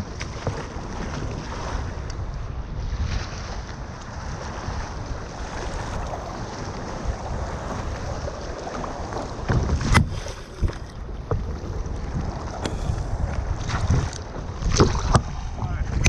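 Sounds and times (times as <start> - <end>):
wind buffeting microphone: 0.0 - 16.0
water sloshing: 3.0 - 16.0.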